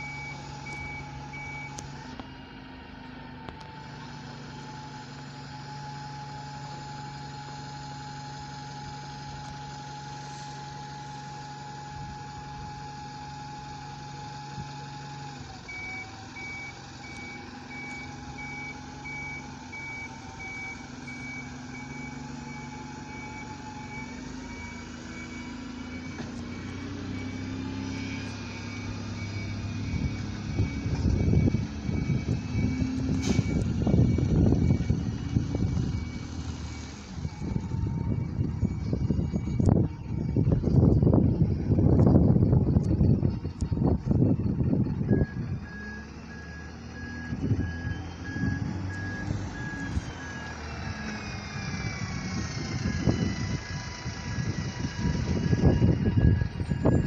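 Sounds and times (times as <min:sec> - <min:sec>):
reversing beeper: 0:00.0 - 0:02.2, 0:03.7 - 0:57.0
bus driving up: 0:00.0 - 0:57.0
bus engines idling: 0:00.0 - 0:57.0
high engine whine: 0:00.0 - 0:57.0.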